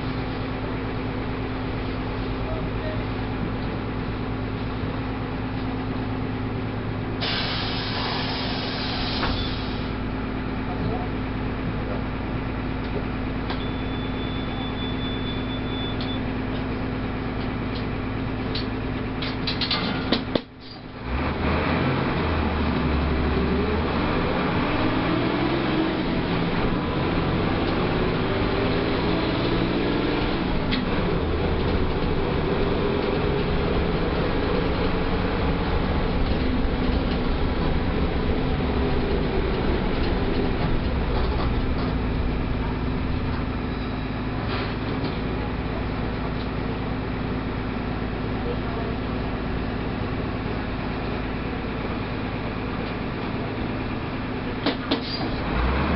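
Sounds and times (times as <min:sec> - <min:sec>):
diesel bus engine: 0:00.0 - 0:55.9.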